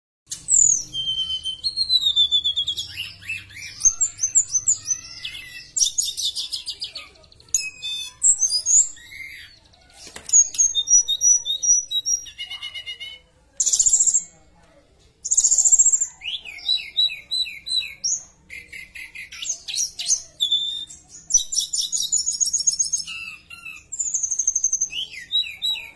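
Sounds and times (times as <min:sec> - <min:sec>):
bird singing whistles and trills: 0:00.3 - 0:09.6, 0:10.3 - 0:14.3, 0:15.3 - 0:25.9.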